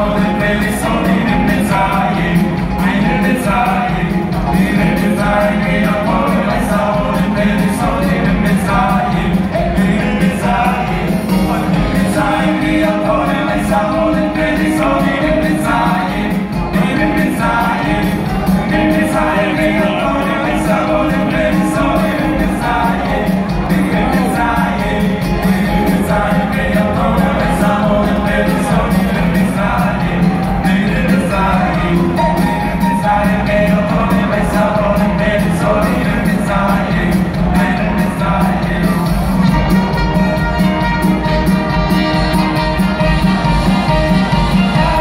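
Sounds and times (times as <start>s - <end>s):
band accompaniment: 0.0s - 45.0s
men and boys' choir singing: 0.0s - 45.0s.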